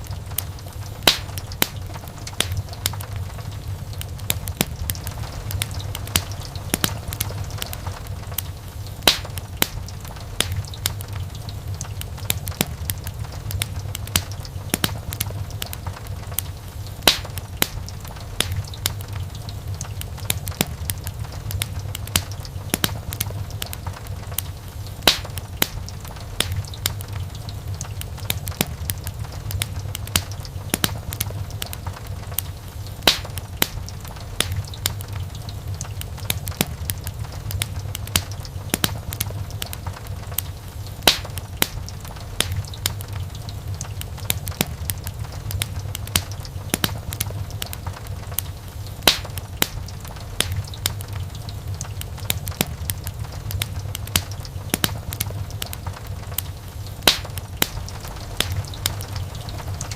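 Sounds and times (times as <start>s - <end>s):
burning wood popping and snapping: 0.0s - 59.9s
low rumble of flames: 0.0s - 59.9s.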